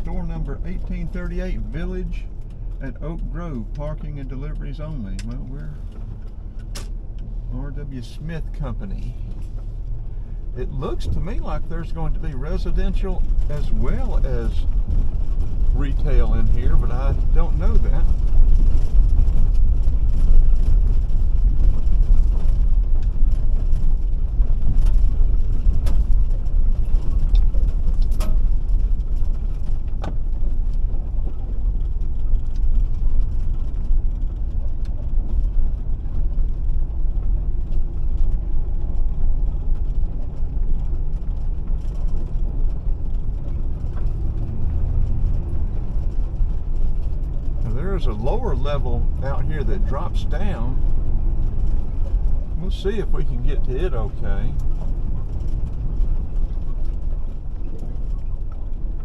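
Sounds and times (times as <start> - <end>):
car engine and tyres rumbling: 0.0 - 59.0
light clicks and rattles: 0.0 - 59.0.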